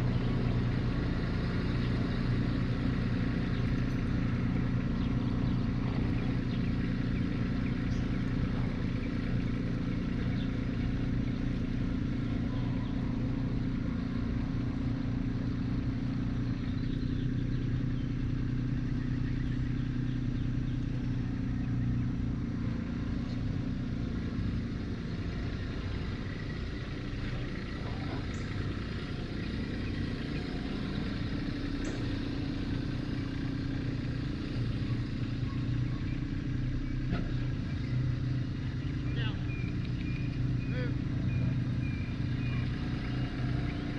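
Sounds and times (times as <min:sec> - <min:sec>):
diesel tractor engine running: 0:00.0 - 0:43.9.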